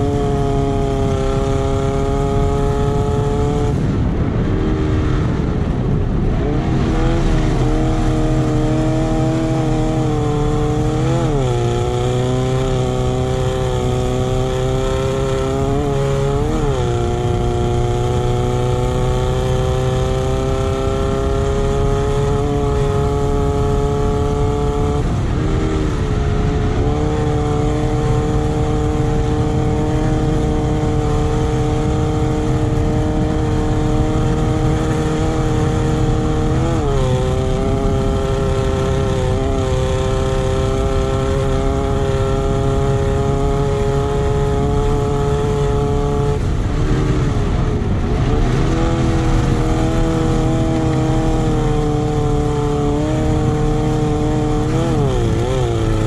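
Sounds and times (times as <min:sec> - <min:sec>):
buggy engine running hard: 0:00.0 - 0:56.0.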